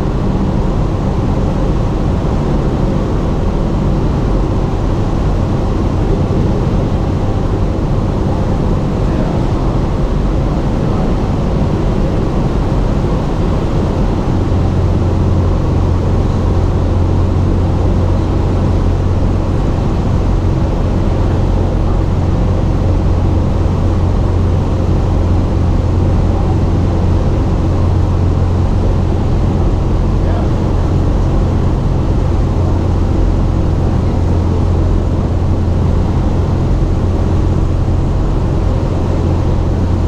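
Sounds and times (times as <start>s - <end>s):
airplane engine droning: 0.0s - 40.0s.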